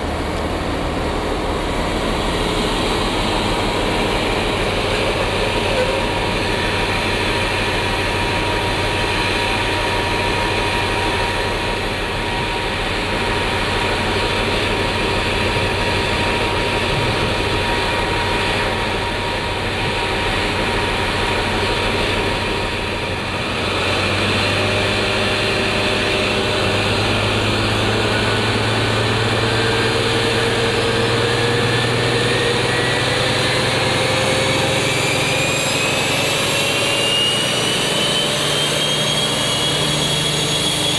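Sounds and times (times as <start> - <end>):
diesel engine with high whistle: 0.0 - 40.9
turbocharger whine climbing: 0.0 - 40.9.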